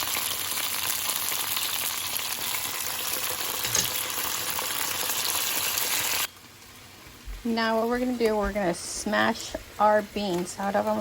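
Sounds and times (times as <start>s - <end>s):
beans sizzling in lard: 0.0s - 11.0s.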